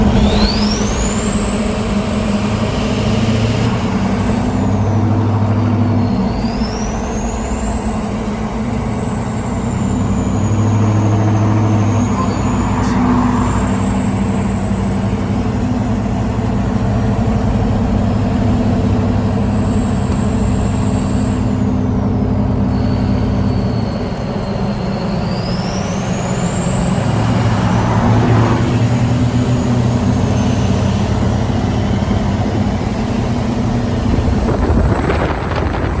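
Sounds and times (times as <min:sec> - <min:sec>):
diesel engine low drone: 0:00.0 - 0:36.0
turbocharger whistling: 0:00.0 - 0:36.0.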